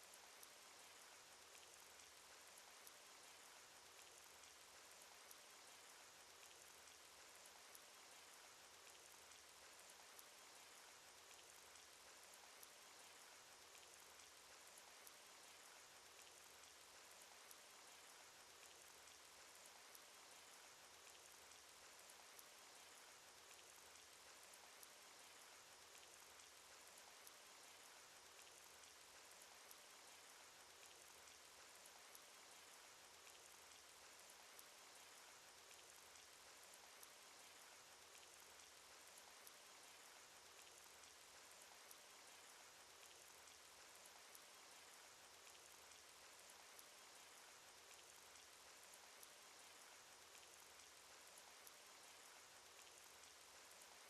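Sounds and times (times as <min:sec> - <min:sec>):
faint rain hiss: 0:00.0 - 0:54.0
light raindrop ticks: 0:00.0 - 0:54.0.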